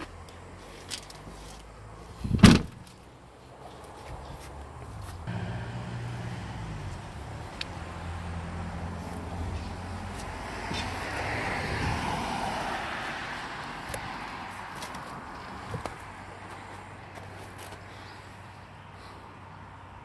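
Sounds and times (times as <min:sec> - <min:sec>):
car engine humming: 0:00.0 - 0:20.0
passing vehicle road noise: 0:00.0 - 0:20.0.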